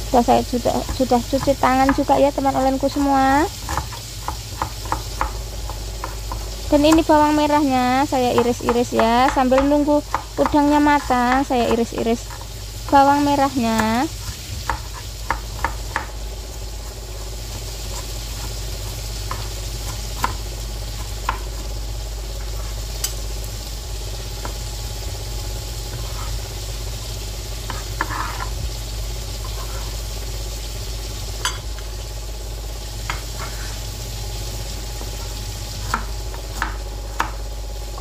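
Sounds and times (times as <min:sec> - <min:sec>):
shrimp sizzling in oil: 0:00.0 - 0:38.0.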